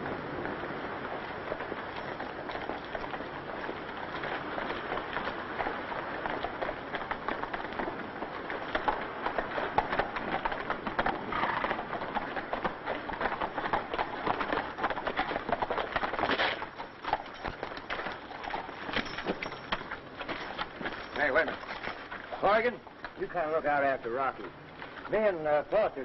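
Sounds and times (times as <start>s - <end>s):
horses galloping hoofbeats: 0.0s - 26.0s.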